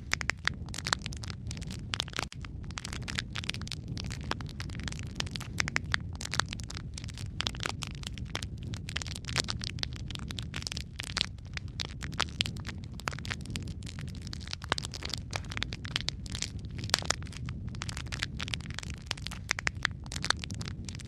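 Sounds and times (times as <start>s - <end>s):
burning logs crackling and popping: 0.0s - 21.0s.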